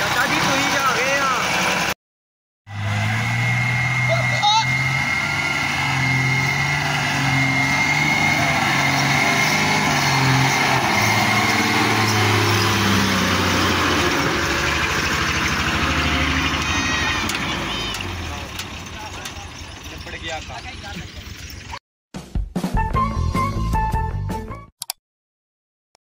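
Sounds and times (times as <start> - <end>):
diesel truck engine under load: 0.0 - 2.0, 2.7 - 21.8.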